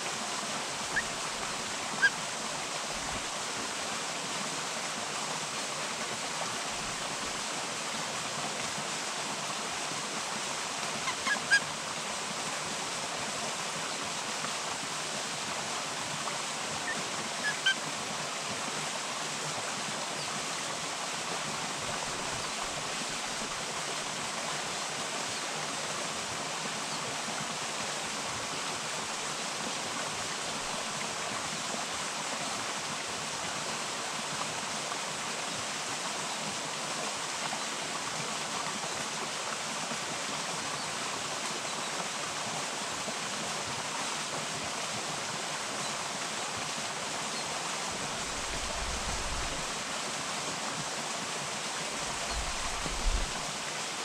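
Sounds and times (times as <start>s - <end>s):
forest stream rushing: 0.0s - 54.0s.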